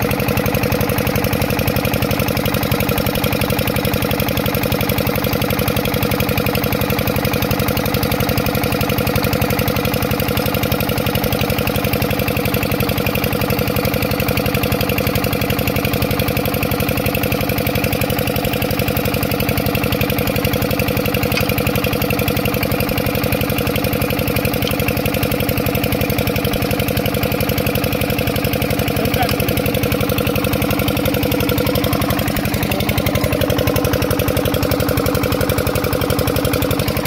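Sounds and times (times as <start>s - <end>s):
stationary diesel engine knocking: 0.0s - 37.0s.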